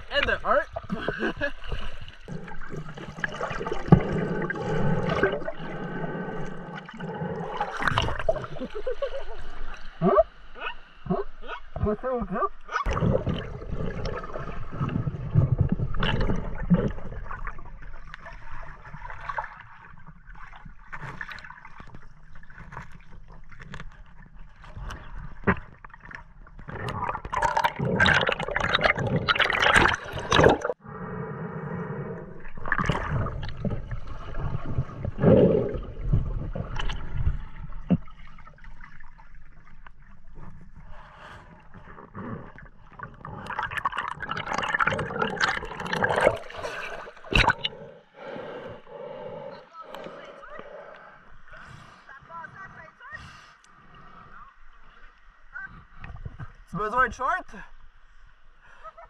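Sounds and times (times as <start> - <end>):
water gurgling and sloshing: 0.0 - 58.8.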